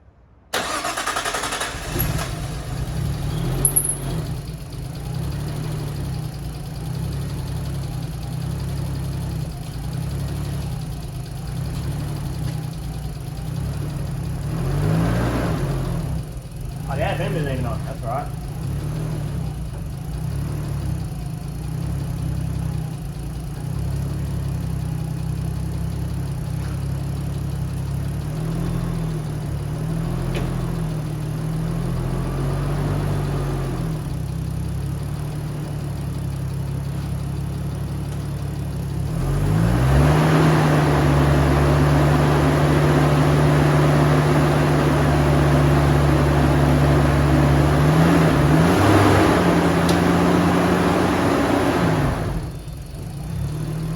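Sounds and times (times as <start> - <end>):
car engine idling: 0.5 - 53.9.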